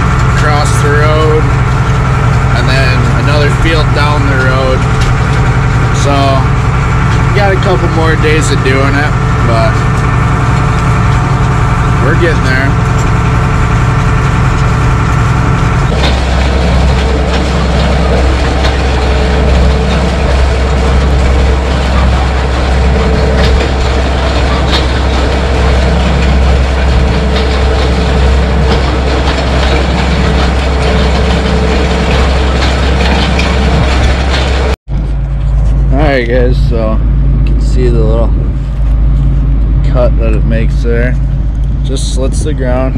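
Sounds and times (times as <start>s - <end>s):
spiked roller clattering: 0.0s - 34.8s
steady low rumble: 0.0s - 42.9s
tractor engine running: 0.0s - 42.9s.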